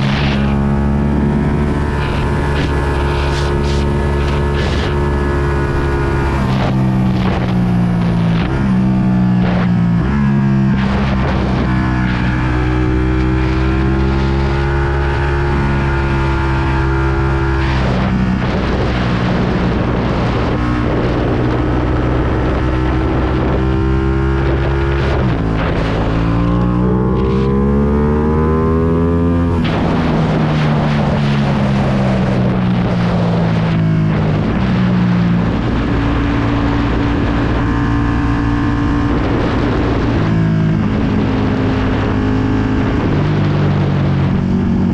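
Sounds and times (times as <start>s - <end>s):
motorcycle engine revving: 0.0s - 44.9s
wind on microphone: 0.0s - 44.9s.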